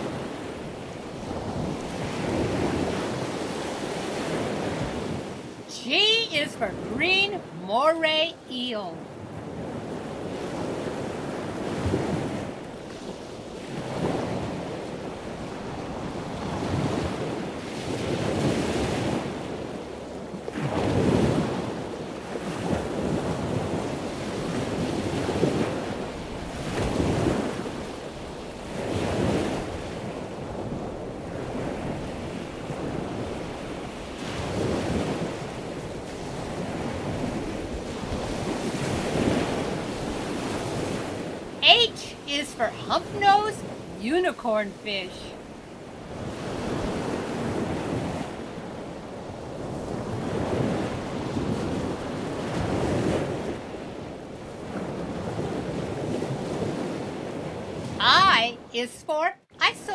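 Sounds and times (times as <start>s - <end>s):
ocean surf: 0.0s - 59.9s.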